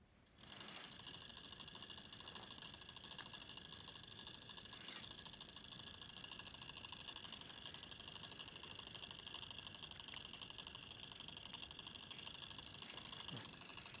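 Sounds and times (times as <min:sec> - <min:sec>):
small motor rattling buzz: 0:00.4 - 0:14.0.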